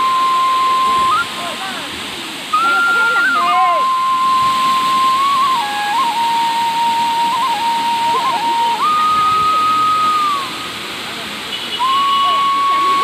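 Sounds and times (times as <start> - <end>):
person whistling a tune: 0.0 - 1.5, 2.5 - 10.8, 11.8 - 13.0
waterfall rushing: 0.0 - 13.0.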